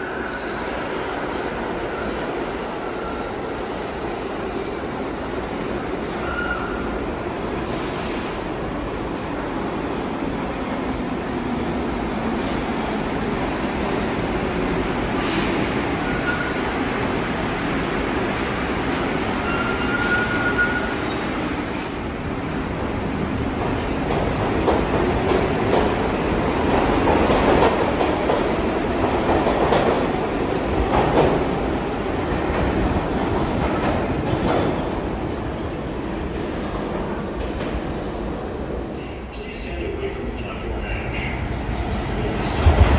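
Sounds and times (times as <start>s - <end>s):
subway train wheels clattering: 0.0s - 42.9s.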